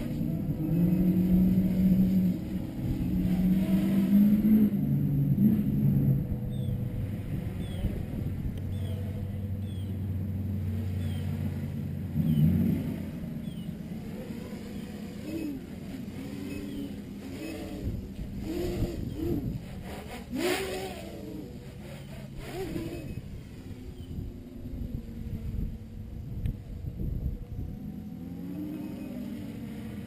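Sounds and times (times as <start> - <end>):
drone motors whining: 0.0 - 30.0
wind rumble on microphone: 0.0 - 30.0.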